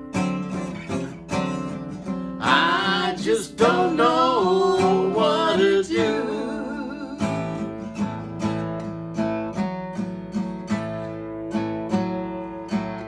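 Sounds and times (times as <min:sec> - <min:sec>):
acoustic guitar strummed blues rhythm: 0:00.0 - 0:13.0.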